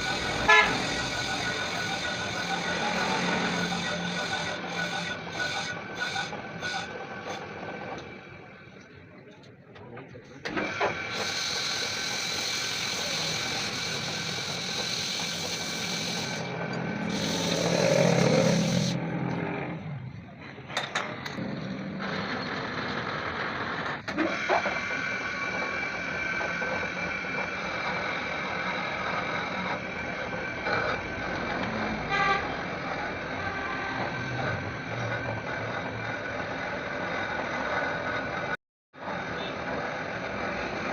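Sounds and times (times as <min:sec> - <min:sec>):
tractor engine running: 0:00.0 - 0:38.6.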